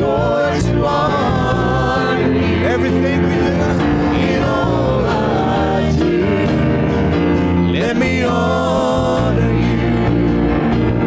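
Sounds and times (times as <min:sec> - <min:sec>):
church band playing gospel song: 0:00.0 - 0:11.0
voices singing: 0:00.0 - 0:11.0.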